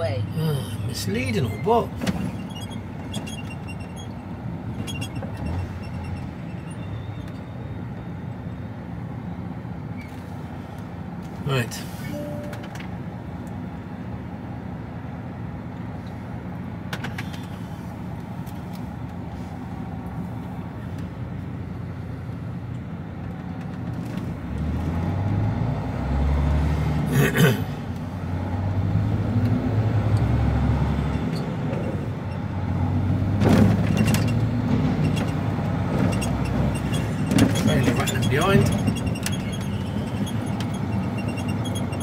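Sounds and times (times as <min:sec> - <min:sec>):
lorry diesel engine: 0:00.0 - 0:42.0.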